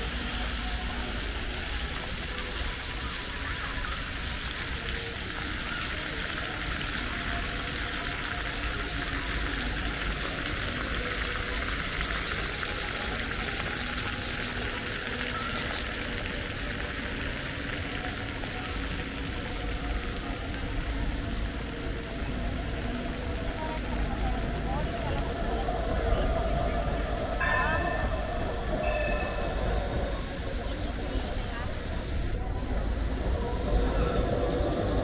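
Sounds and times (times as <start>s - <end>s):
faint voices: 0.0s - 35.0s
fountain jets splashing: 0.0s - 35.0s.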